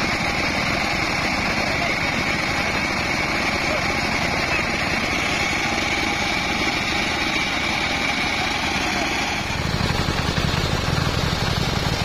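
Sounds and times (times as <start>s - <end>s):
high whine: 0.0s - 11.6s
sawmill engine running: 0.0s - 12.0s.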